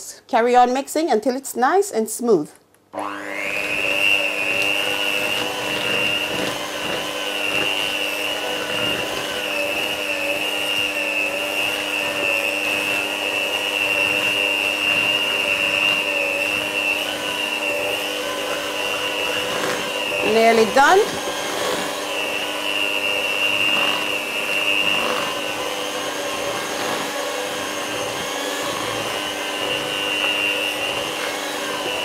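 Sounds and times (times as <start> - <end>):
electric hand mixer whining: 3.0 - 32.0.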